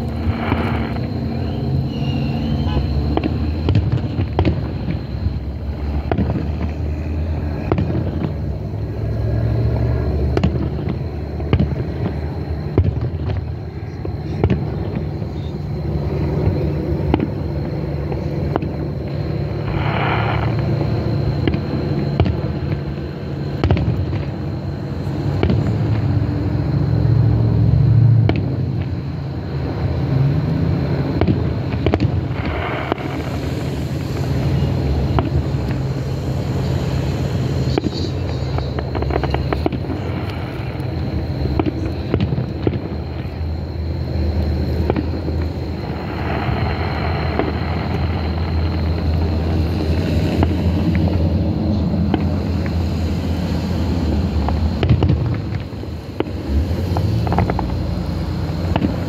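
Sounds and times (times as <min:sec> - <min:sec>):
fireworks bangs and crackles: 0:00.0 - 0:59.0
steady low rumble: 0:00.0 - 0:59.0.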